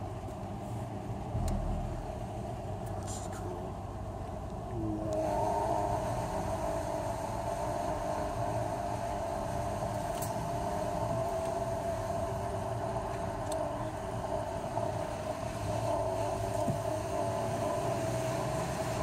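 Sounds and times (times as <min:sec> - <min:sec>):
car cabin engine and tyre drone: 0:00.0 - 0:19.0.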